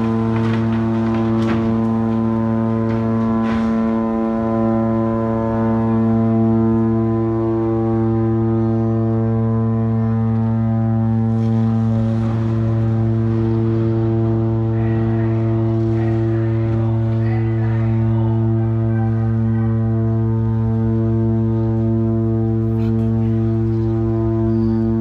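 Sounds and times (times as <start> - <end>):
ship horn long low blast: 0.0 - 25.0.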